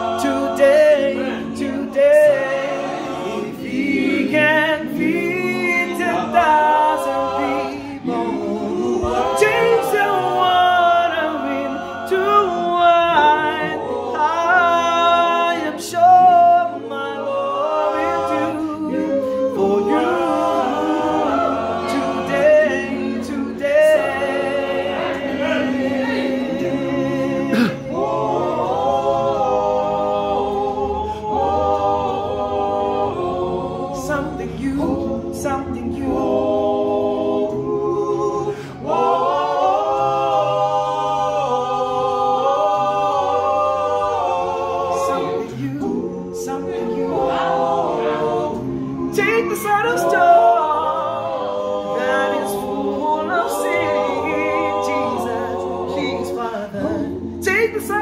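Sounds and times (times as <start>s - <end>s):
male group singing in harmony: 0.0s - 58.0s.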